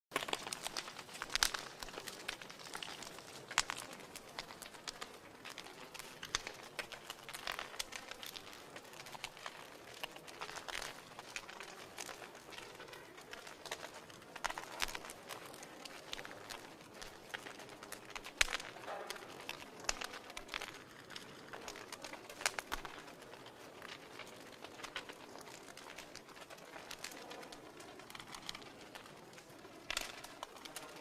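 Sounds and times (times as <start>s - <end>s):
fire pops: 0.1s - 31.0s
wood fire crackling: 0.1s - 31.0s.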